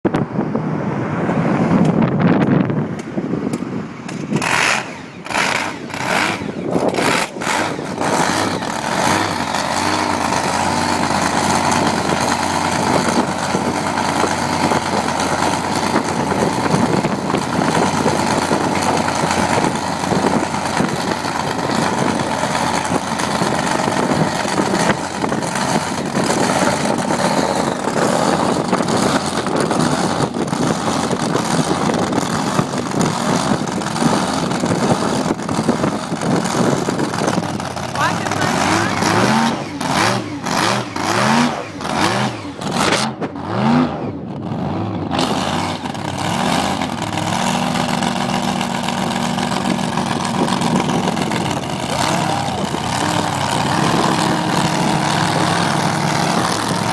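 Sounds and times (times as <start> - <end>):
truck engine revving: 0.3 - 56.9.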